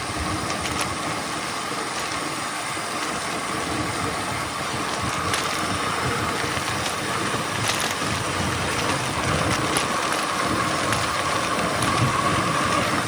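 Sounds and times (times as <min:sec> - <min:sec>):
bike rattles: 0:00.0 - 0:13.0
bike tyre rumble on dirt: 0:00.0 - 0:13.0
wind noise: 0:00.0 - 0:13.0.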